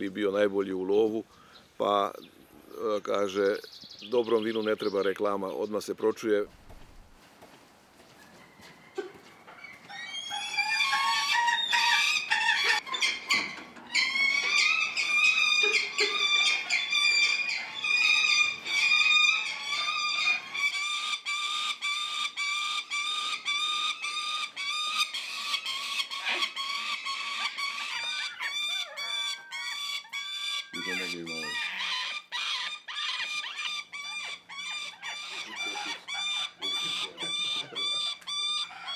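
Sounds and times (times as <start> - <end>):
falcon chicks begging calls: 1.4 - 5.8, 9.6 - 38.9.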